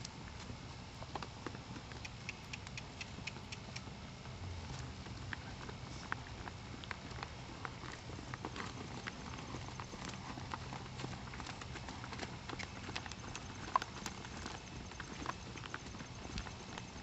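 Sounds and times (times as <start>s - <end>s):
hooves trotting on dirt: 0.0s - 17.0s.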